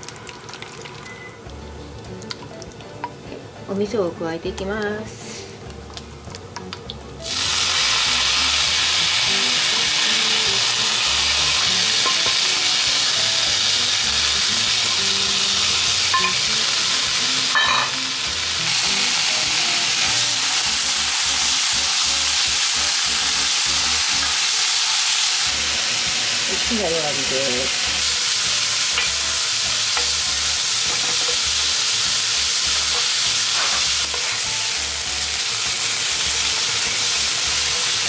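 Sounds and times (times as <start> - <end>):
food sizzling in a frying pan: 0.0 - 3.1, 4.8 - 38.0.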